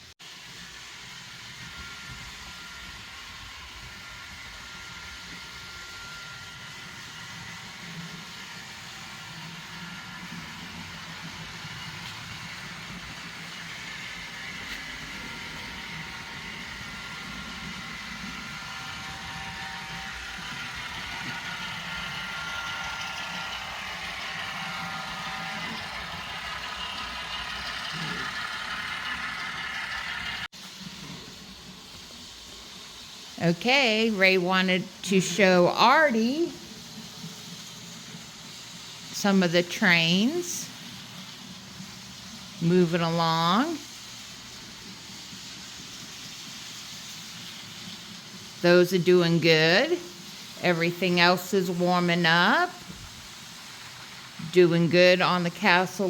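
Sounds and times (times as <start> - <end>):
model trains running on track: 0.0 - 56.0.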